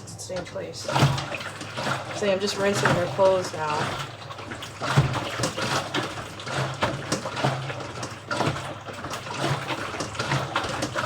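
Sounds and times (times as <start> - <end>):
water and clothes sloshing: 0.0 - 11.0.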